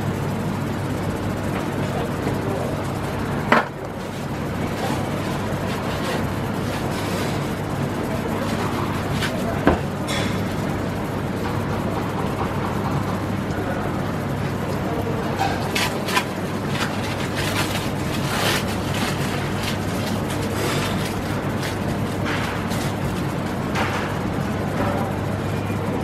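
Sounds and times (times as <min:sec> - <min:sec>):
indistinct background chatter: 0:01.4 - 0:26.0.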